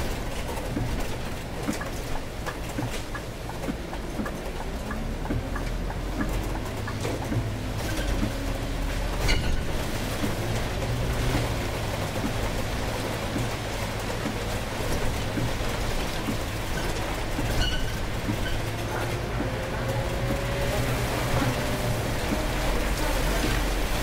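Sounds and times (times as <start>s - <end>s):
bus engine hum: 0.0s - 24.0s
heavy rain: 0.0s - 24.0s.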